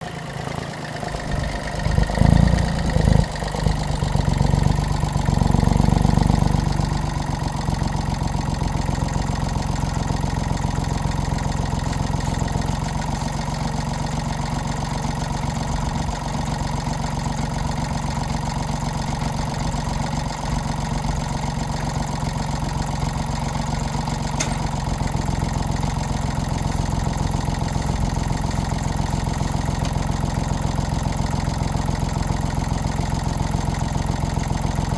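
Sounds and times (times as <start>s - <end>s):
excavator engine idling: 0.0s - 34.9s.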